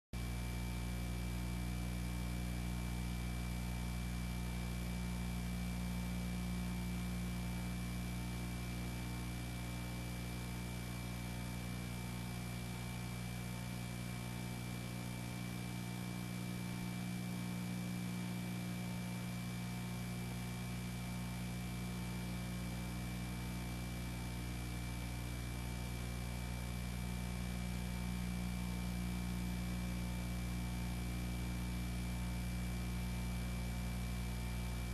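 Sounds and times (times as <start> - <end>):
electrical mains hum: 0.2 - 34.9.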